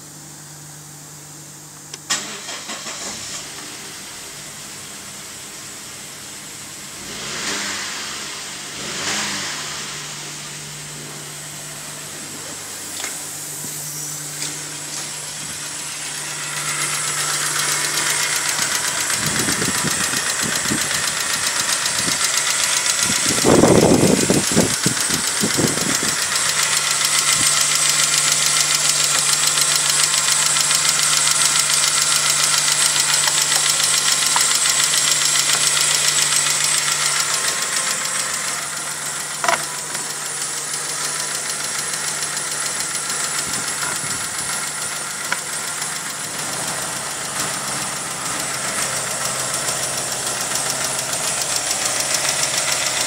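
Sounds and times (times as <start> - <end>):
car engine starting and idling: 0.0 - 53.0
fast fine engine ticking: 8.8 - 53.0.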